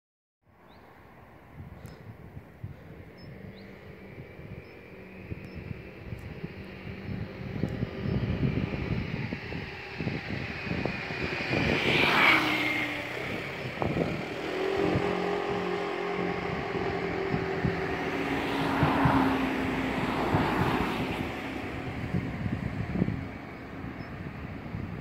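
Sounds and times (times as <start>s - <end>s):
passing motor vehicles: 0.5s - 25.0s
wind buffeting microphone: 0.7s - 25.0s.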